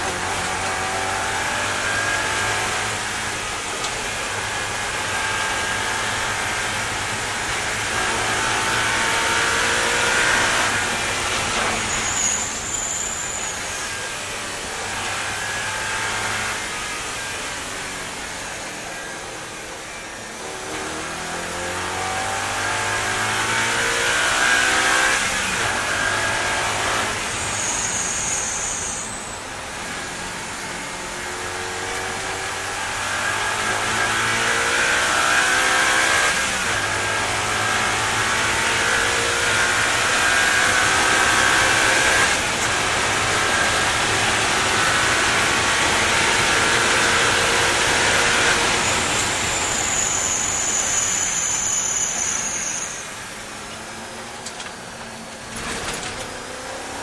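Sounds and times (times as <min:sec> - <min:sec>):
race car engine revving through gears: 0:00.0 - 0:12.7, 0:13.4 - 0:28.5, 0:29.6 - 0:57.0
wind and tyre noise: 0:00.0 - 0:57.0.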